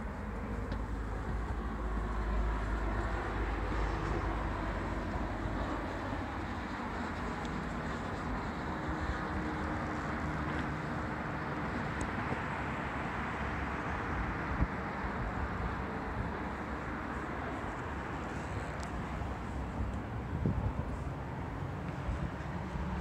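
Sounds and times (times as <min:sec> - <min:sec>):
distant road traffic hum: 0:00.0 - 0:23.0.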